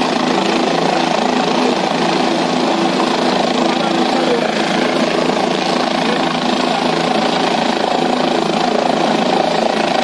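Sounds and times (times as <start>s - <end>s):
helicopter engine and rotor: 0.0s - 10.0s.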